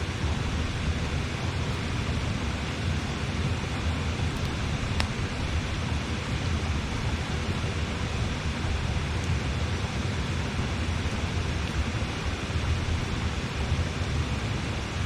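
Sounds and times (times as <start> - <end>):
campfire crackle: 0.0 - 15.0
river flowing: 0.0 - 15.0.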